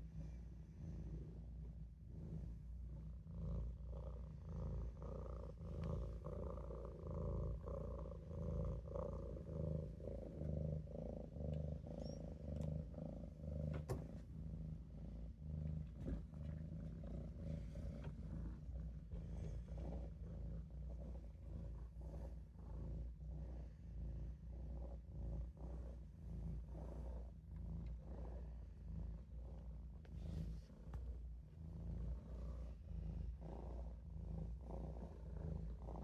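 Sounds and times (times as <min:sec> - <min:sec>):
kitten purring: 0:00.0 - 0:36.0.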